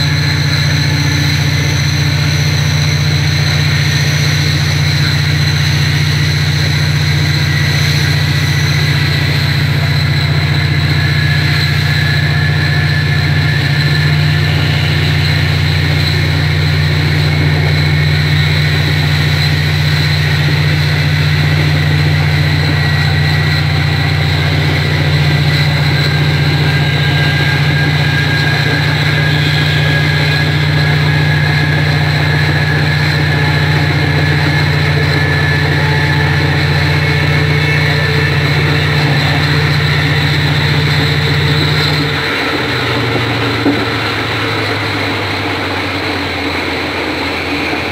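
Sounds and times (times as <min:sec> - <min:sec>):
thin high whine: 0:00.0 - 0:47.9
train engine low drone: 0:00.0 - 0:47.9.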